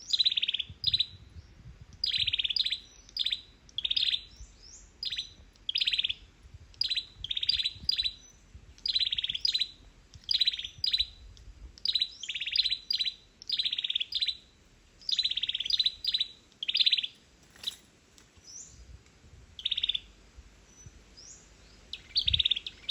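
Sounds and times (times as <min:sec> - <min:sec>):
songbird chirping trills: 0:00.0 - 0:19.0, 0:19.6 - 0:22.9.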